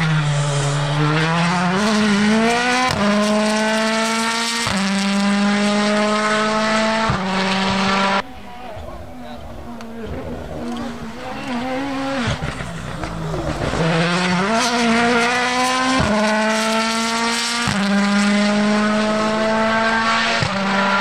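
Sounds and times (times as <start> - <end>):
rally car accelerating: 0.0 - 21.0.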